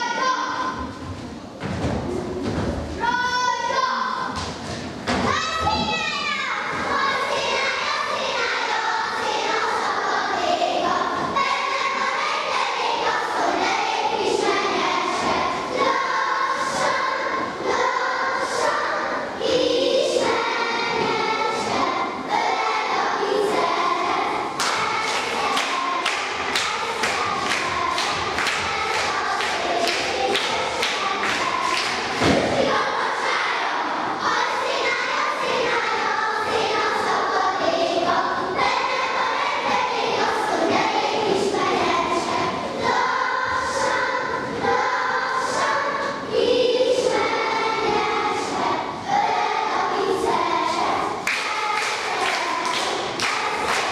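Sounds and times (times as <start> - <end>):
children singing in unison: 0.0 - 1.0, 5.1 - 53.9.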